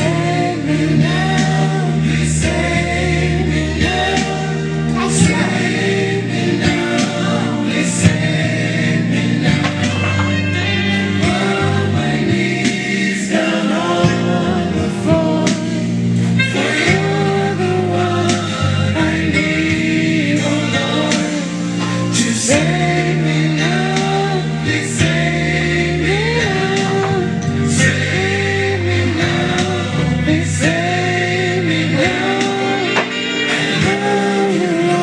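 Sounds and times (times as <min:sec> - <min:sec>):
gospel singing with bass and chords: 0:00.0 - 0:35.0.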